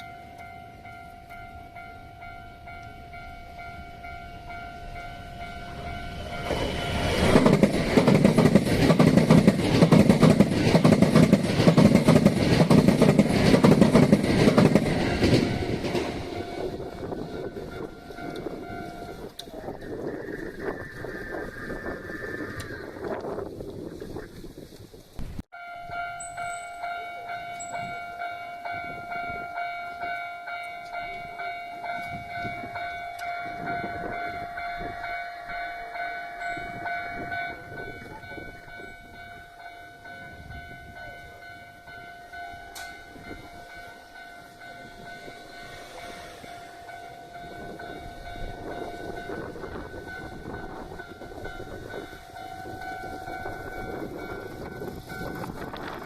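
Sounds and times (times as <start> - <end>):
level crossing warning bells ringing: 0.0 - 19.7, 25.6 - 56.0
train rumbling on rails: 0.0 - 56.0.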